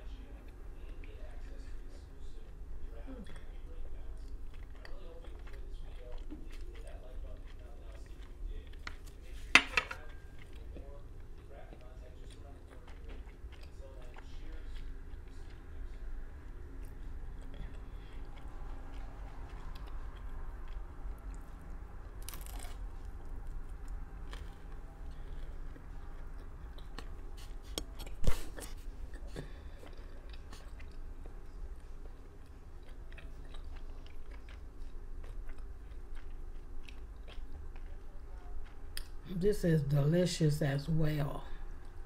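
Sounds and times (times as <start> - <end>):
chewing and biting pizza: 0.0 - 39.2.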